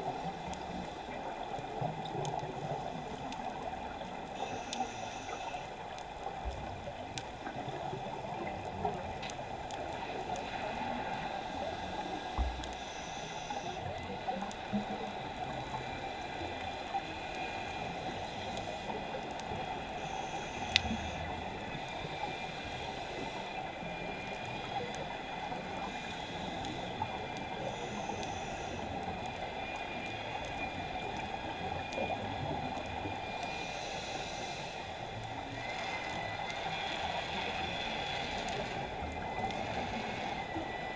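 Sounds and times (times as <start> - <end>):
steady crackling hiss: 0.0 - 40.9.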